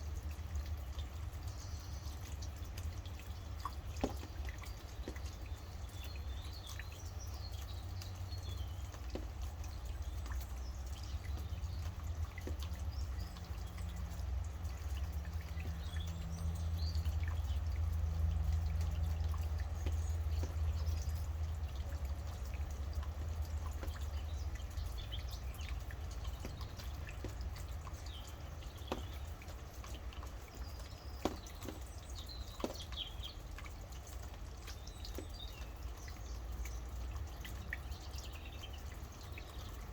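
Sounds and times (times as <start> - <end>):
rain dripping: 0.0 - 39.9
birds chirping: 0.2 - 39.9.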